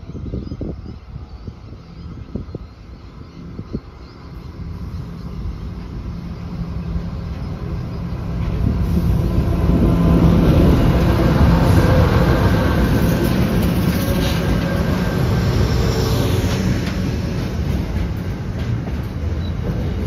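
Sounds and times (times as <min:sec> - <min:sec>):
diesel locomotives passing: 0:00.0 - 0:20.0.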